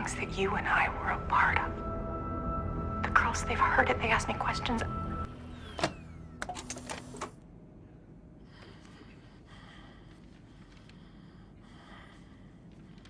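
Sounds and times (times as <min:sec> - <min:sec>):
low music drone: 0:00.0 - 0:13.0.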